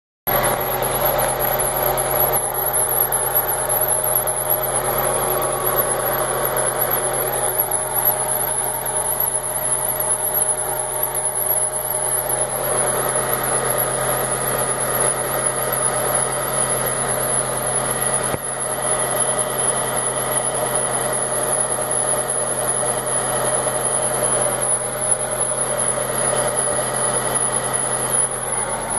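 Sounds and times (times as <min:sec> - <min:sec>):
strange engine noise: 0:00.3 - 0:28.9.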